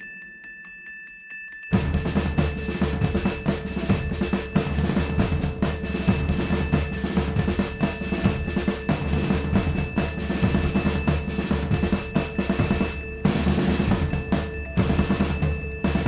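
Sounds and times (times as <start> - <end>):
rapid drumming with snare and bass drum: 1.7 - 16.0.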